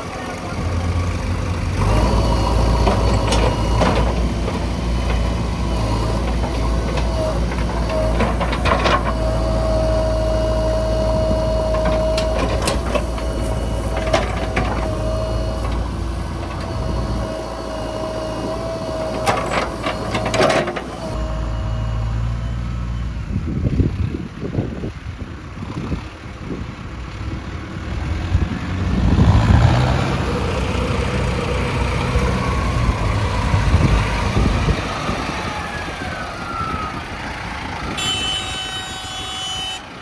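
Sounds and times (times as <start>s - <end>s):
diesel machinery running: 0.0s - 40.0s.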